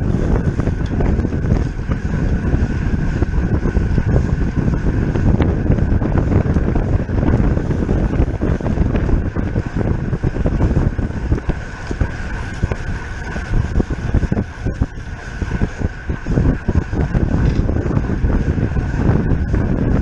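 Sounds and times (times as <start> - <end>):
steady high whine: 0.0 - 20.0
wind buffeting microphone: 0.0 - 20.0.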